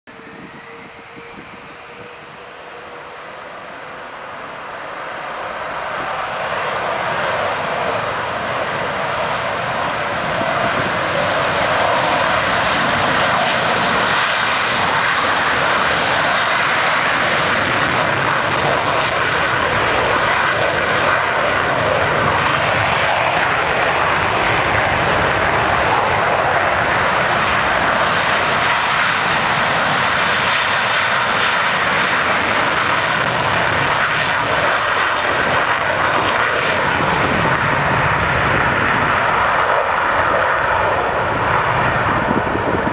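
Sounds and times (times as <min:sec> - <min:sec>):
loud jet engines roaring: 0:00.0 - 0:42.9.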